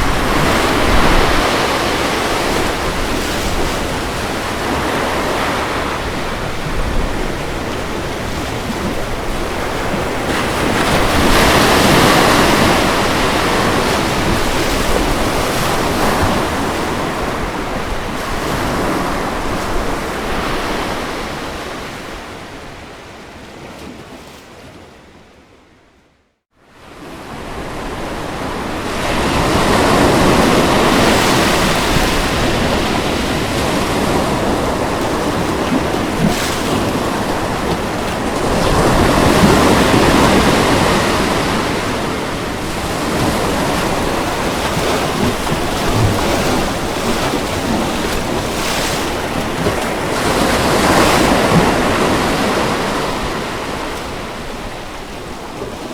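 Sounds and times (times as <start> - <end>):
ocean waves breaking: 0.0 - 25.4, 26.7 - 55.9.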